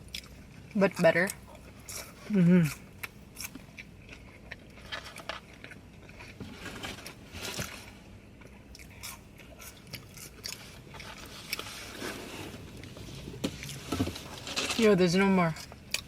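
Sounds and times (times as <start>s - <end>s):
person chewing food: 0.0s - 14.4s, 15.6s - 16.0s
food crunching: 0.0s - 16.0s.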